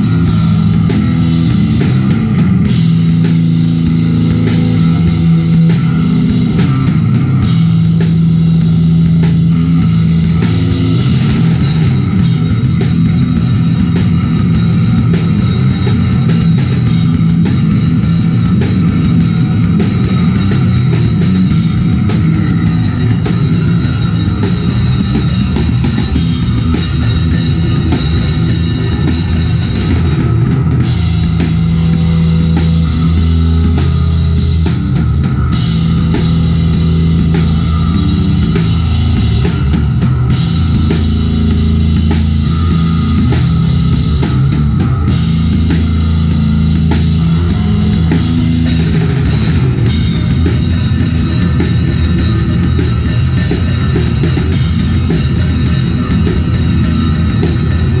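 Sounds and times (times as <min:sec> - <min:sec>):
fast drum kit with cymbals: 0:00.0 - 0:58.0
heavy electric guitar: 0:00.0 - 0:58.0
sustained low notes: 0:00.0 - 0:58.0.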